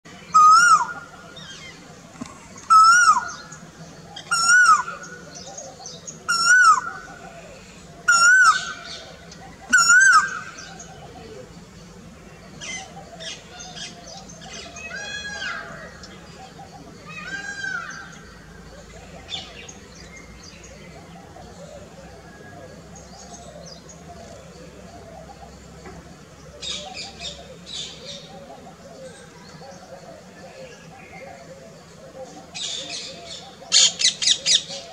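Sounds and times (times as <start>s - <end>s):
faint calls of other birds: 0.1s - 34.9s.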